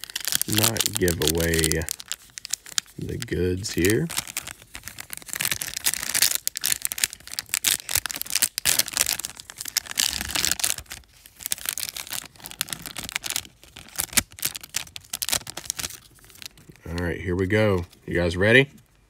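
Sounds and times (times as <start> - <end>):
foil wrapper crinkling and tearing: 0.0 - 17.0.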